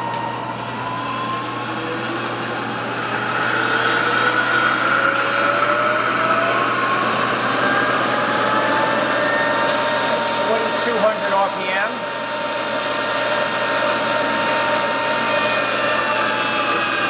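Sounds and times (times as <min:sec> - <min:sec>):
milling machine whine: 0:00.0 - 0:17.0.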